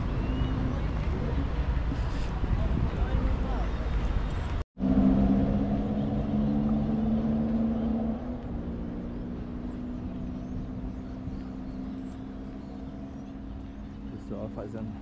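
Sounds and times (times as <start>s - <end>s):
engine hum with low rumble: 0.0s - 15.0s.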